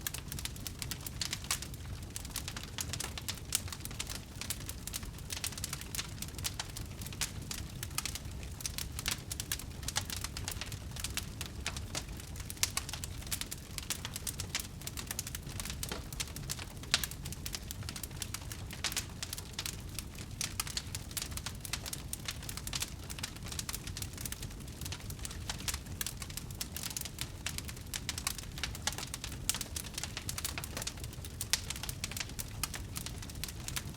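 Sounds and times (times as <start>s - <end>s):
campfire crackling and popping: 0.0s - 33.9s
low rumble of flames: 0.0s - 33.9s.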